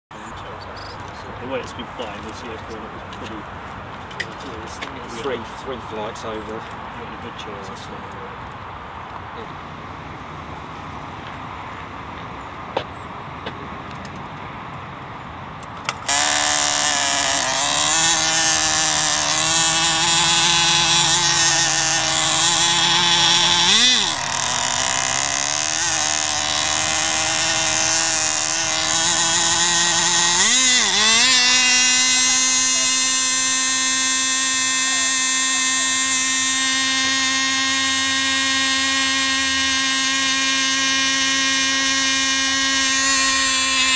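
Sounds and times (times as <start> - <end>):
model engine high-pitched whine: 0.2 - 14.3, 15.2 - 43.9.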